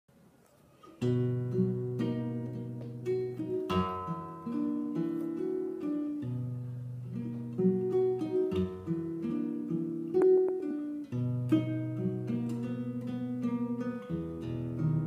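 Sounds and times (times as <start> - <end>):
classical guitar fingerpicked solo: 0.6 - 15.0.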